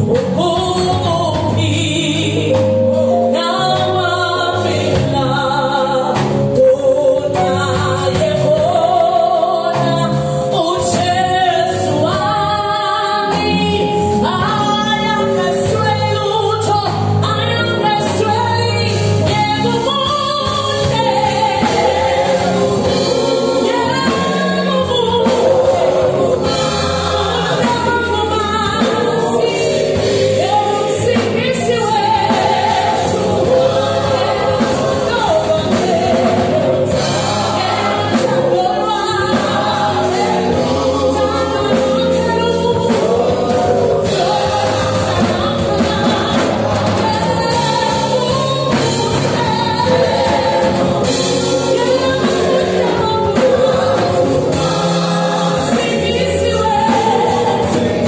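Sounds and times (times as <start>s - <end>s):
drum kit: 0.0s - 58.0s
group singing gospel: 0.0s - 58.0s
instrumental backing: 0.0s - 58.0s.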